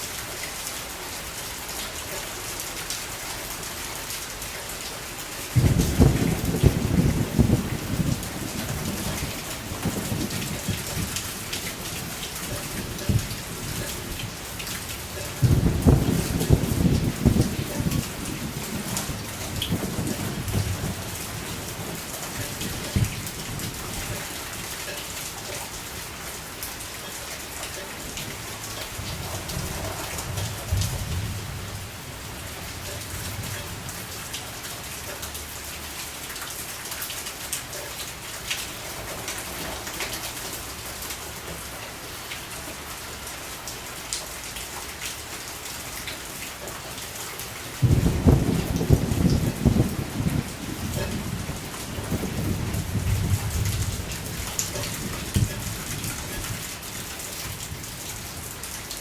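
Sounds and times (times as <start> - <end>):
rain drops hitting close by: 0.0 - 59.0
steady rain falling: 0.0 - 59.0.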